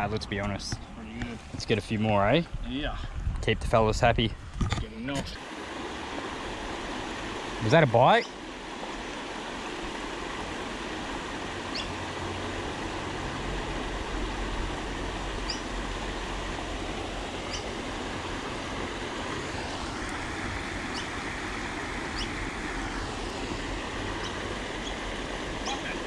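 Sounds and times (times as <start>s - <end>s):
water rushing over rocky weir: 4.8s - 26.0s.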